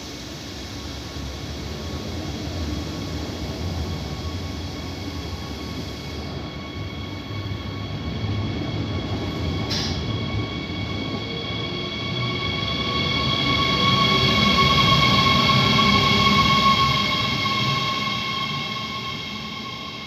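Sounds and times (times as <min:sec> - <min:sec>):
high-pitched train tones: 0:00.0 - 0:20.0
train rolling rumble: 0:00.0 - 0:20.0.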